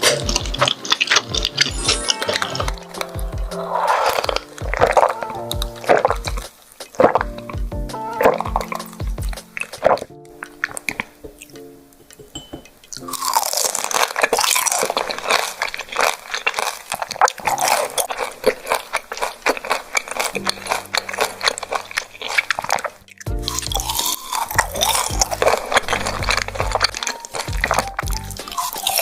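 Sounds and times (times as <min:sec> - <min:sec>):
wet chewing and squishing: 0:00.0 - 0:11.7, 0:12.9 - 0:29.0
soft background music: 0:00.0 - 0:15.6, 0:19.9 - 0:29.0.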